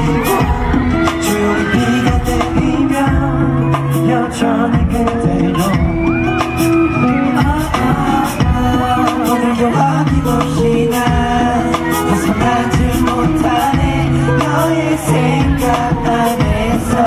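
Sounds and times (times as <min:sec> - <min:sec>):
man singing into microphone: 0:00.0 - 0:17.0
pop ballad backing track: 0:00.0 - 0:17.0.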